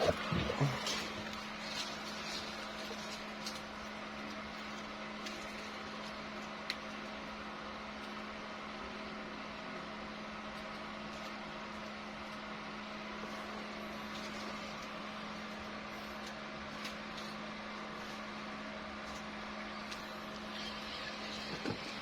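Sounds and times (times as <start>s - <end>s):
steady motor hum: 0.0s - 22.0s.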